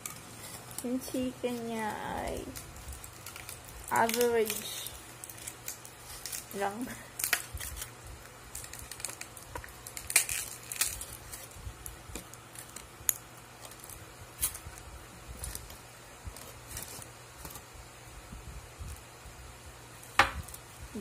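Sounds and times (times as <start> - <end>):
aluminium foil crinkling: 0.0 - 19.2, 19.8 - 21.0.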